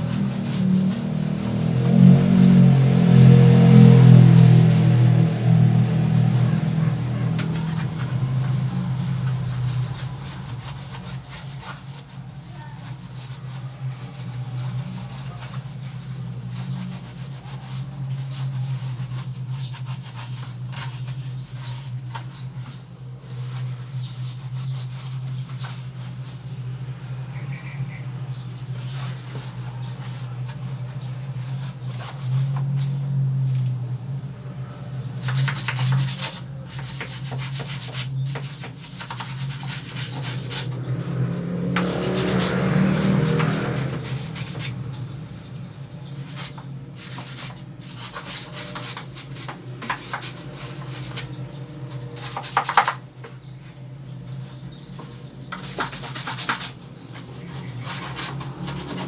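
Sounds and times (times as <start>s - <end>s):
brush scrubbing: 0.0s - 26.6s, 28.3s - 33.4s, 35.1s - 59.0s.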